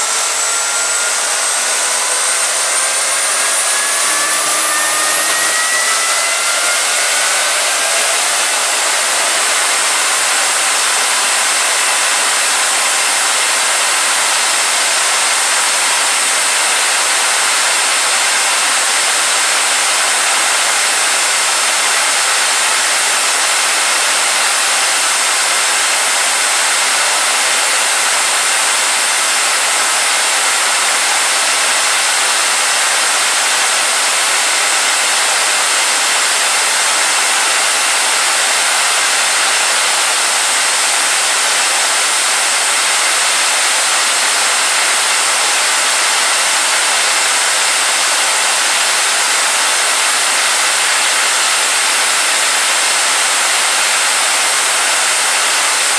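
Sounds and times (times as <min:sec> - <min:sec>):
gas turbine engine running: 0:00.0 - 0:55.9.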